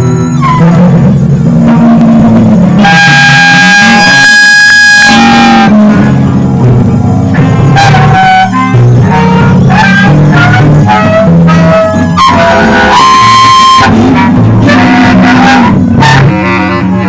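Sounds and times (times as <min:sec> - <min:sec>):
instrumental ensemble music: 0:00.0 - 0:17.0.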